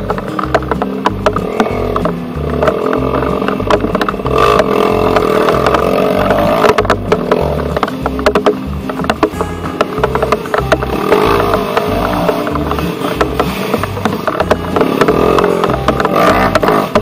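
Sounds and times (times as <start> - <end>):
dirt bike engine revving: 0.0 - 8.6, 9.3 - 17.0
background music with bass line: 0.0 - 17.0.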